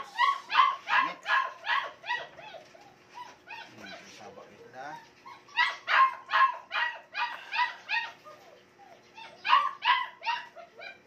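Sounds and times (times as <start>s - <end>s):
puppies yipping and barking: 0.0s - 11.0s.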